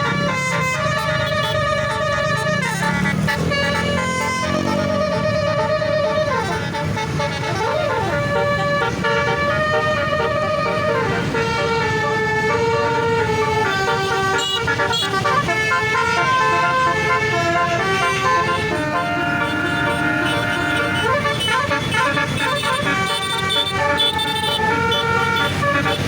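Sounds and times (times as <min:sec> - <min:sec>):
multi-tone bus horn tune: 0:00.0 - 0:26.0.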